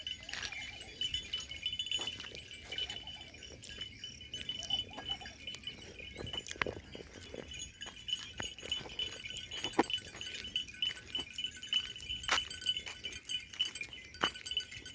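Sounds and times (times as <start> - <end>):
metallic clinks and knocks: 0.0 - 14.9.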